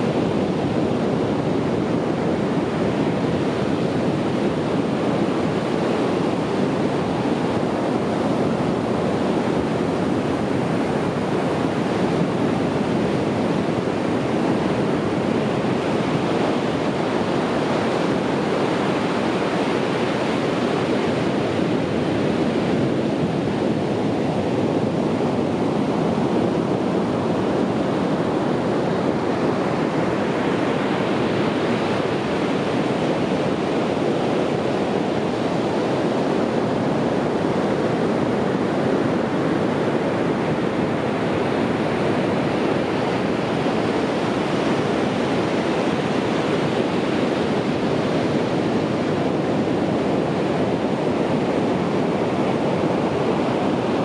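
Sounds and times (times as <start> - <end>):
sea waves on a beach: 0.0 - 54.0.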